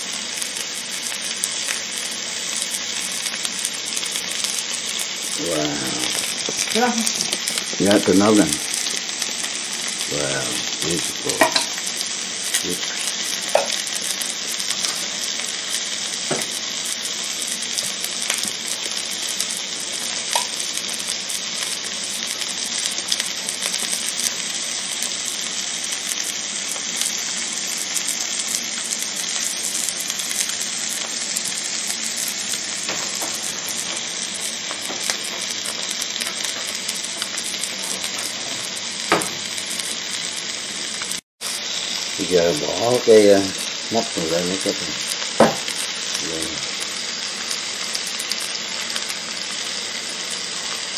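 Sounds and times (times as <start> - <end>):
steak sizzling on a grill: 0.0 - 50.9.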